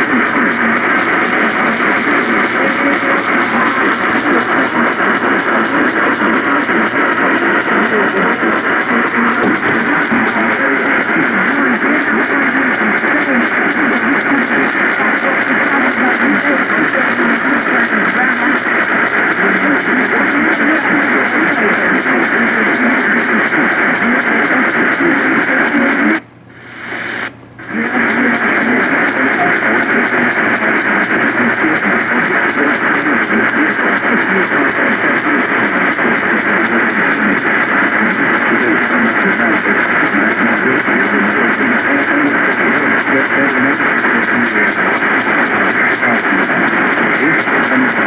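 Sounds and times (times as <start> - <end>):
radio static hiss: 0.0 - 48.0.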